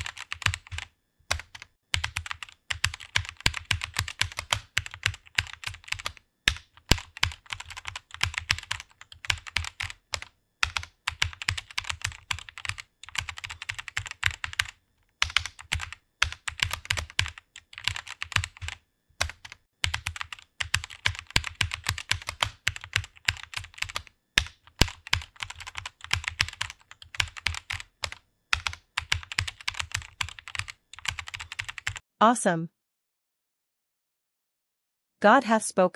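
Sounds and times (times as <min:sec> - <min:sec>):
fast typing on a keyboard: 0:00.0 - 0:32.0.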